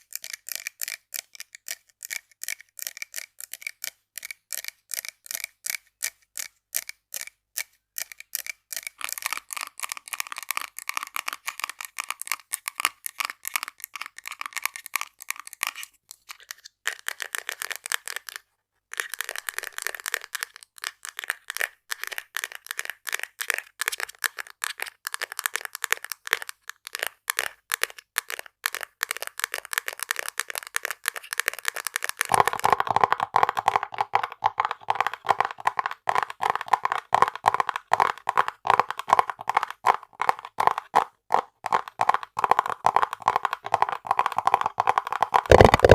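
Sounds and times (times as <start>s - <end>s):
rapid tapping on small objects: 0.0s - 45.9s.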